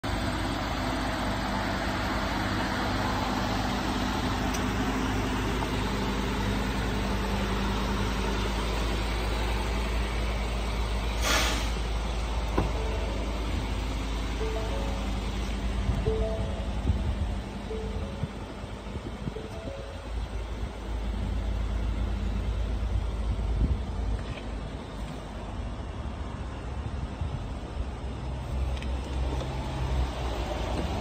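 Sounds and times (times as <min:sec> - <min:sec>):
outdoor background noise: 0:00.0 - 0:31.0
vehicle engine idling: 0:00.0 - 0:31.0.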